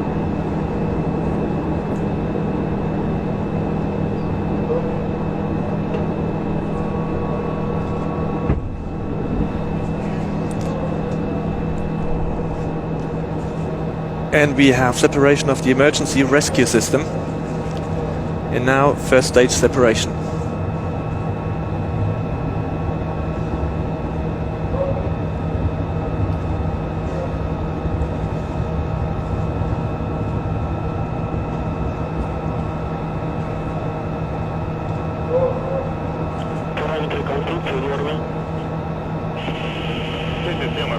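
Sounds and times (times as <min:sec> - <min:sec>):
constant hum: 0:00.0 - 0:40.9.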